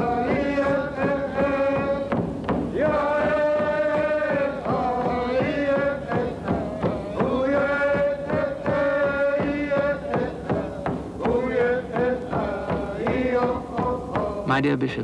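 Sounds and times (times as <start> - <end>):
chant in long held notes: 0.0 - 14.6
steady drum beats: 0.0 - 15.0.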